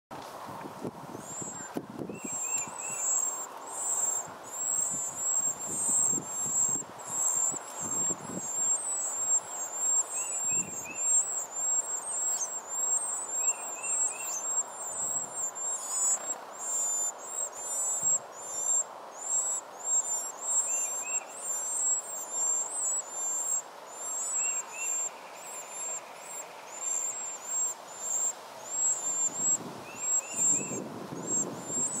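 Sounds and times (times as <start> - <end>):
nestlings begging calls: 1.1 - 32.0.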